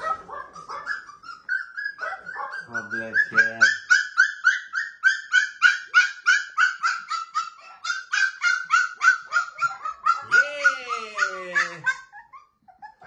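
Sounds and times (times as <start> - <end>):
puppy whining: 0.0 - 13.0
puppy yelping: 0.0 - 13.0.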